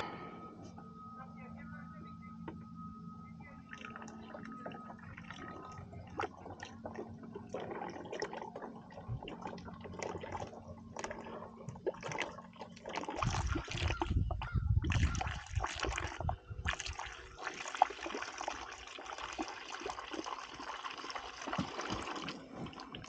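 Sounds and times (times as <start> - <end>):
oil glugging and splattering: 3.6 - 23.0.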